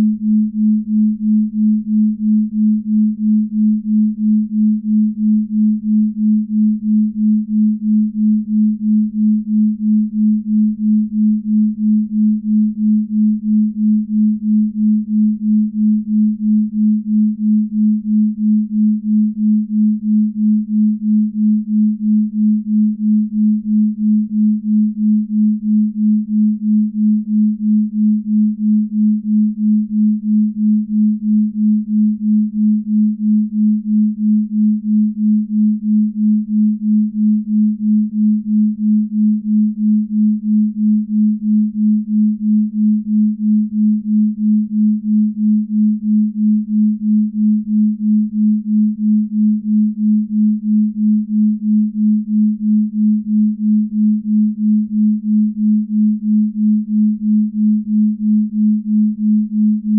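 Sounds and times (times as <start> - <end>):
low pulsing pure tone: 0.0 - 59.9.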